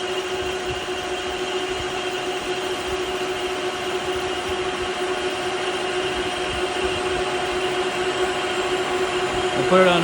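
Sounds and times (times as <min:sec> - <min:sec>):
high cutting whine: 0:00.0 - 0:10.0
metal lathe cutting steel: 0:00.0 - 0:10.0.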